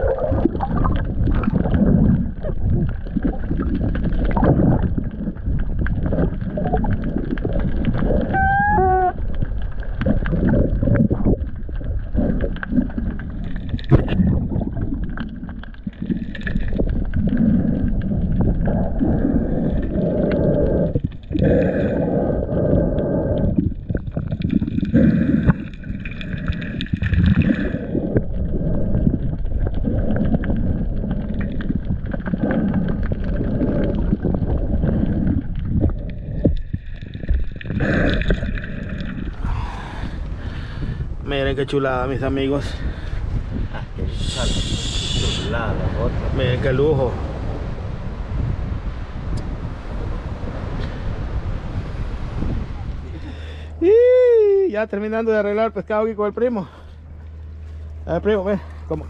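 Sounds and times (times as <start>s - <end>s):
underwater rumbling and gurgling: 0.0s - 59.0s.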